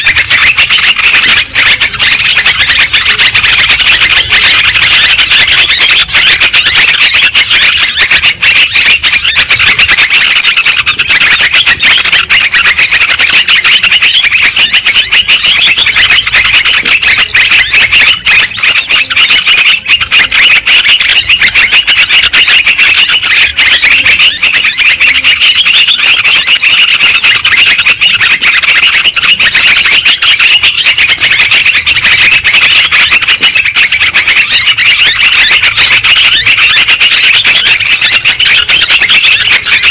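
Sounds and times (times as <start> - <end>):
birds chattering chorus: 0.0 - 39.9.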